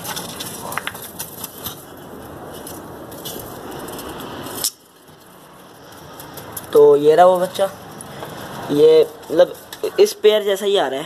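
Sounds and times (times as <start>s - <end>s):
rustling handling noise: 0.0s - 10.8s.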